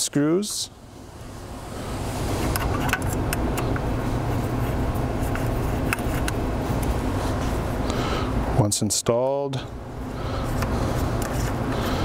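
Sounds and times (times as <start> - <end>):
low machine rumble: 0.7 - 8.8, 9.5 - 12.0.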